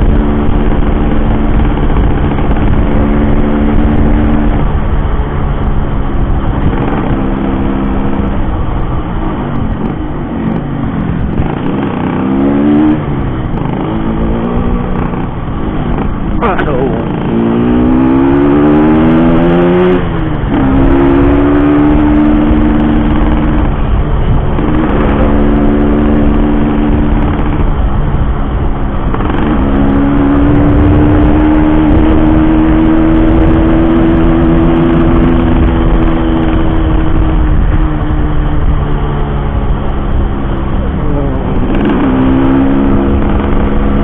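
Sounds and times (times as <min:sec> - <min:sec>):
two-stroke motorcycle engine revving: 0:00.0 - 0:05.7, 0:06.5 - 0:08.6, 0:09.6 - 0:44.0.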